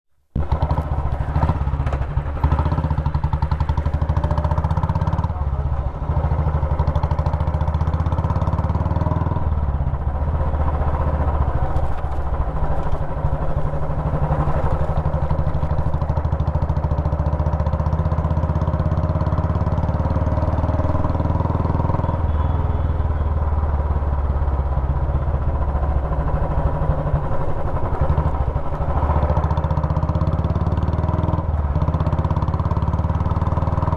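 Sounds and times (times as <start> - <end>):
motorcycle engine running: 0.3 - 33.9.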